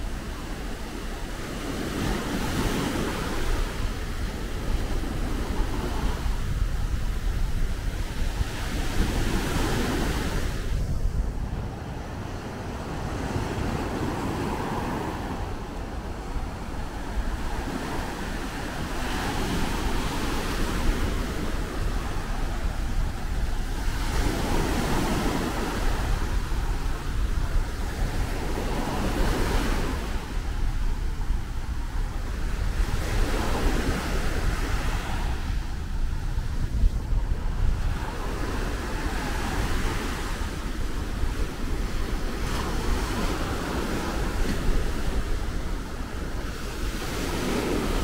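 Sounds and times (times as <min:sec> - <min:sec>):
sea waves washing onto beach: 0:00.0 - 0:48.0
wind buffeting microphone: 0:00.0 - 0:48.0.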